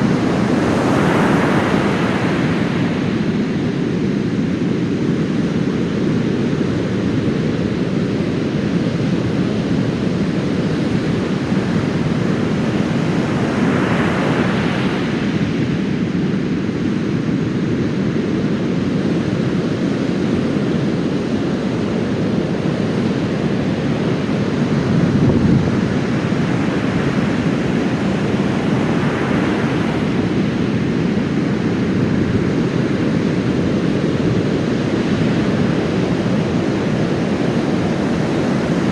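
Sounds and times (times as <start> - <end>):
waves rumbling: 0.0 - 38.9.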